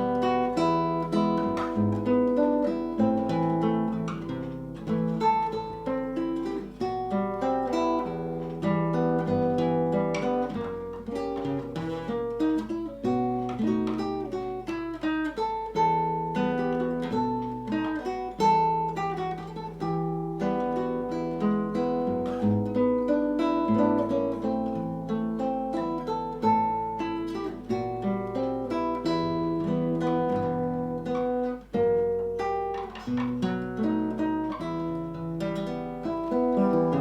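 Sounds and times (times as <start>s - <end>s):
solo acoustic guitar: 0.0s - 37.0s.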